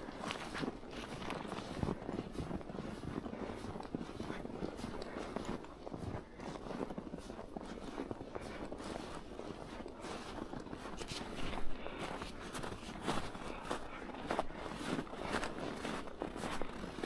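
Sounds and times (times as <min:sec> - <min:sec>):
footsteps crunching through snow: 0:00.0 - 0:17.0.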